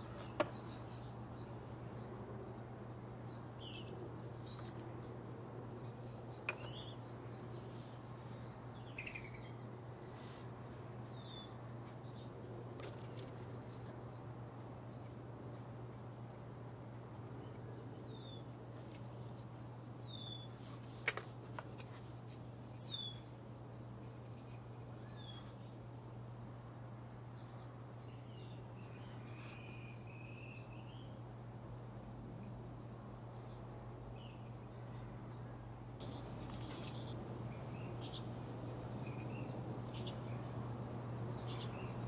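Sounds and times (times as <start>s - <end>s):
songbirds chirping: 0.0s - 42.0s
steady low hum: 0.0s - 42.0s.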